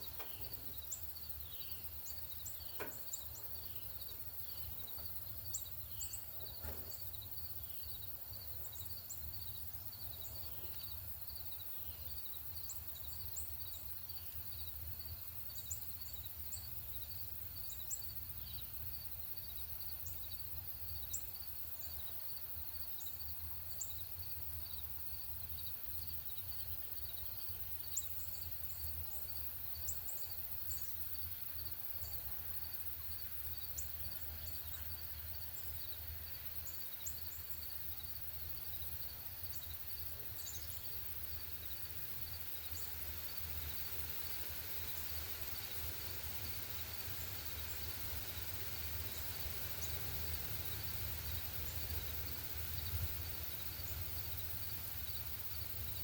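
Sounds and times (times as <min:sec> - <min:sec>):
insect trill: 0:00.0 - 0:56.0
small birds chirping: 0:00.0 - 0:56.0.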